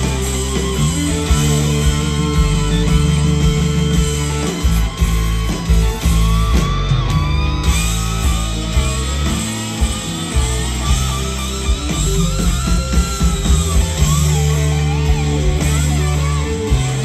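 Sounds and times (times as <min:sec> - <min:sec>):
electric guitar bending notes: 0:00.0 - 0:17.0
live rock band playing: 0:00.0 - 0:17.0.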